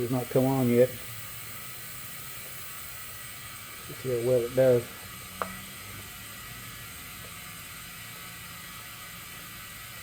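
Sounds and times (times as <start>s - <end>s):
compressed air hissing into tire: 0.0s - 10.0s.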